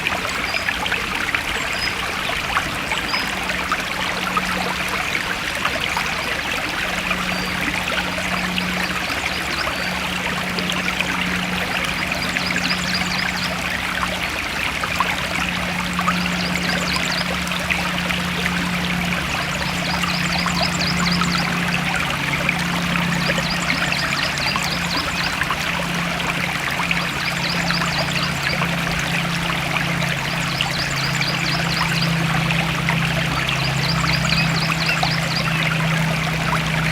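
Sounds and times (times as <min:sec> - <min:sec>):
low steady drone: 0:00.0 - 0:36.9
stream trickling and splashing: 0:00.0 - 0:36.9.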